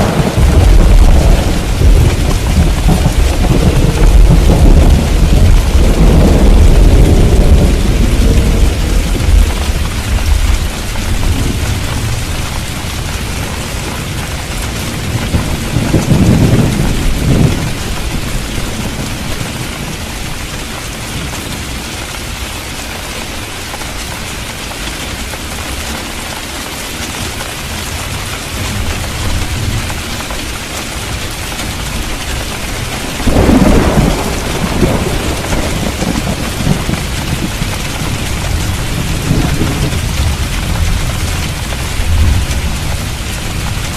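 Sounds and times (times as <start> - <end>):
thunder rumbling: 0.0 - 21.9, 27.8 - 43.9
heavy rain hissing: 0.0 - 43.9.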